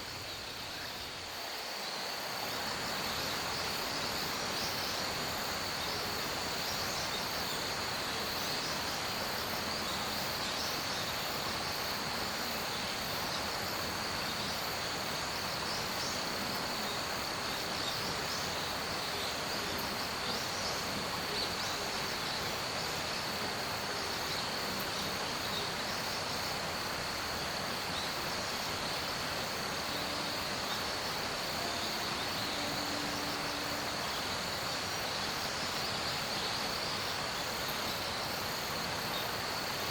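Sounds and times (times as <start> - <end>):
pulsing insect chirp: 0.0 - 39.9
soft outdoor hiss: 0.0 - 39.9.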